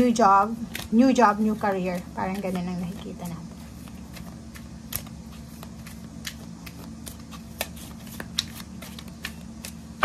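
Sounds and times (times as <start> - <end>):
faint steady hum: 0.0 - 10.0
cards being shuffled: 0.5 - 10.0.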